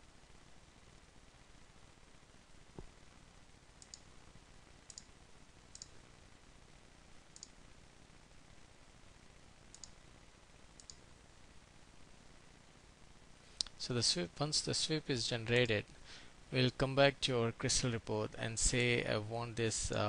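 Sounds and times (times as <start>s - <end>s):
low hiss: 0.0s - 20.0s.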